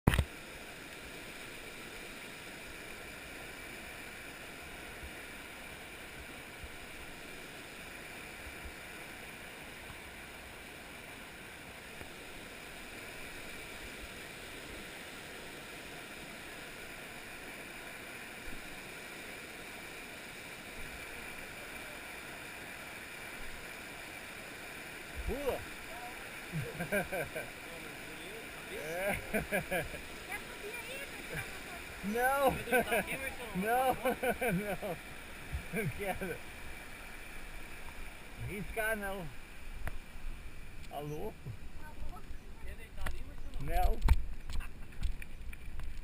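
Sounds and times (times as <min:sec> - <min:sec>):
waterfall rushing: 0:00.3 - 0:43.8.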